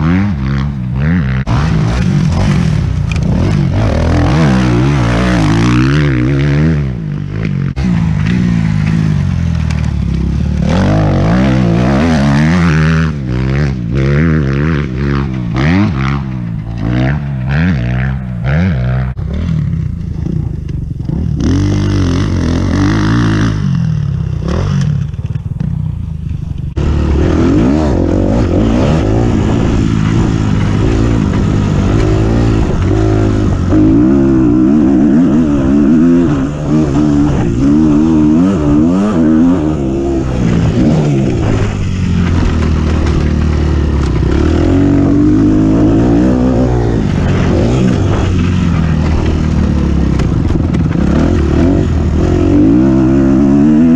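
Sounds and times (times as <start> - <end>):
motocross bike engine revving: 0.0 - 25.8, 26.6 - 53.9.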